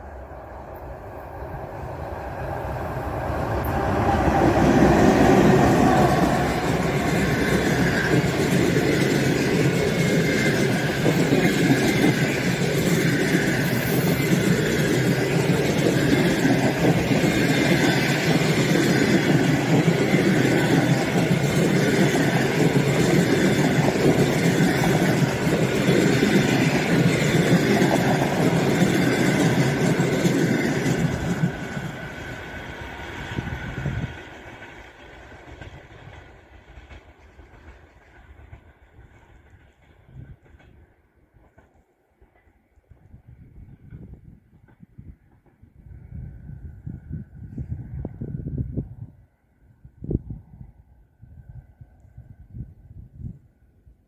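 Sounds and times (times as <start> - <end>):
train wheels rolling on rails: 0.0 - 48.5
electric locomotive passing: 0.0 - 53.8.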